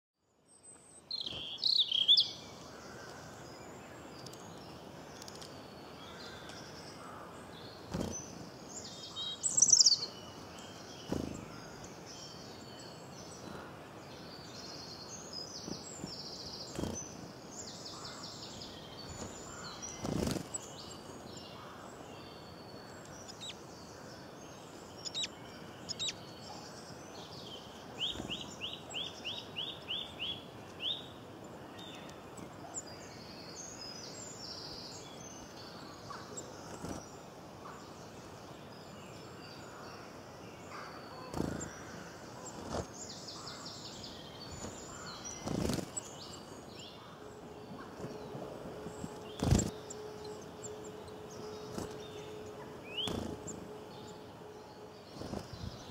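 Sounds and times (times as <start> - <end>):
steady background hiss: 0.3 - 55.9
small birds chirping and trilling: 0.4 - 55.9.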